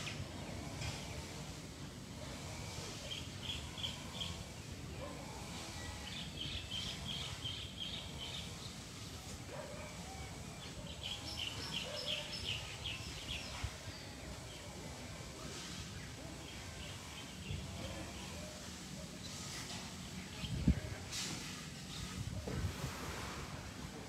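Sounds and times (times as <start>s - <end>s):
faint outdoor background noise: 0.0s - 24.0s.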